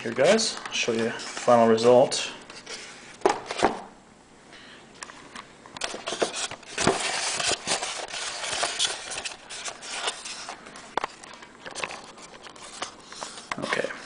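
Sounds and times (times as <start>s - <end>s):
handling noise rubbing and scraping: 0.0s - 3.6s, 5.8s - 14.0s.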